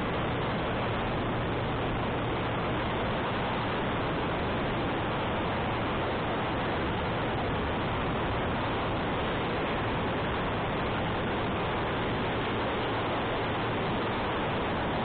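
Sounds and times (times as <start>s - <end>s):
faint low engine hum: 0.0s - 15.0s
wind rushing over microphone: 0.0s - 15.0s.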